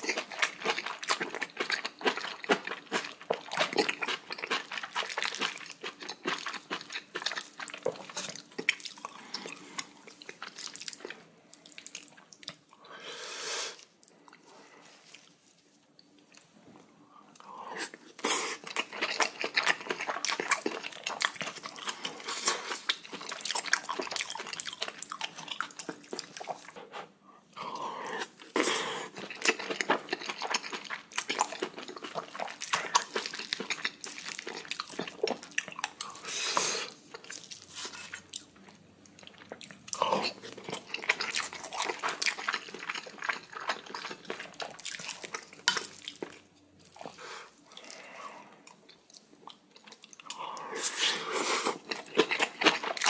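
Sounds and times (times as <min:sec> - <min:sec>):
wet chewing and mouth smacking: 0:00.0 - 0:12.8, 0:17.4 - 0:26.9, 0:28.2 - 0:53.0.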